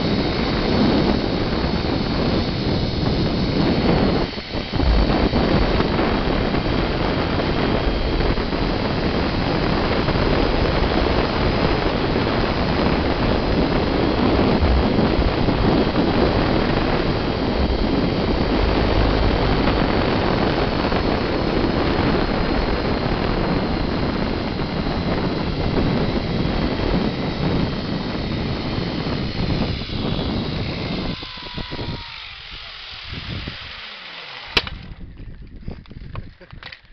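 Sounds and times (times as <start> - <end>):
wind rushing over microphone: 0.0 - 33.9, 34.5 - 36.7
zipline trolley running on cable: 0.0 - 36.9.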